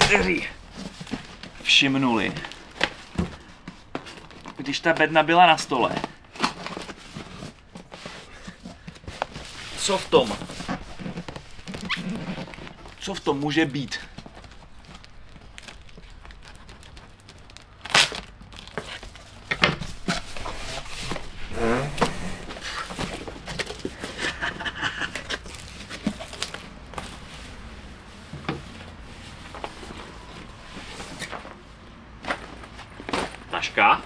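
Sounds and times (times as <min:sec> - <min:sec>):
cardboard and plastic rustling: 0:00.0 - 0:34.0.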